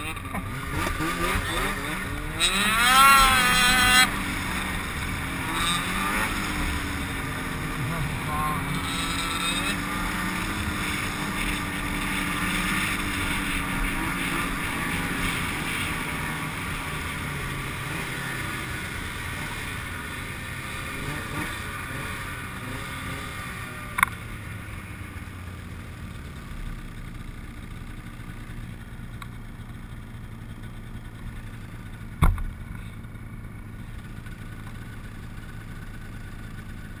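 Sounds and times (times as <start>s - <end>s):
snowmobile engines running: 0.0s - 37.0s.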